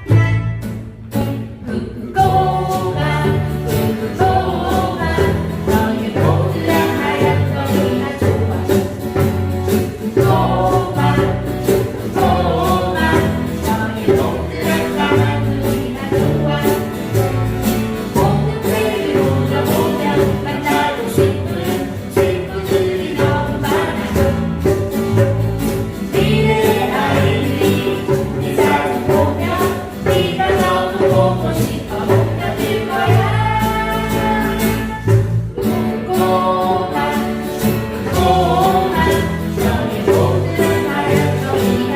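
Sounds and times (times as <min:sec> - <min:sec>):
instrumental accompaniment: 0:00.0 - 0:41.9
walking bass line: 0:00.0 - 0:41.9
group singing: 0:01.2 - 0:41.9
percussive beat: 0:02.2 - 0:41.9.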